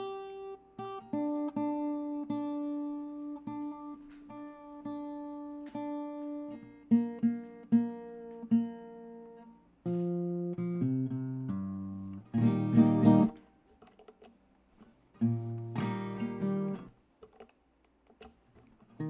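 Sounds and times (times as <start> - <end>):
acoustic guitar plucking: 0.0 - 14.3, 15.1 - 17.4.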